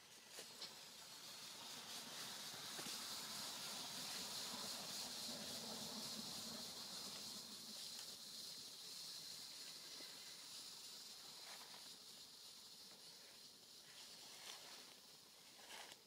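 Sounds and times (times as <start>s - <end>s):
faint high-pitched hiss: 0.0s - 16.0s.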